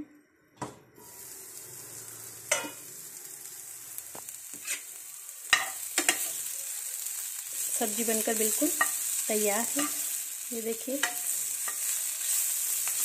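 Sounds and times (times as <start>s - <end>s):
vegetables sizzling in oil: 1.0s - 13.0s.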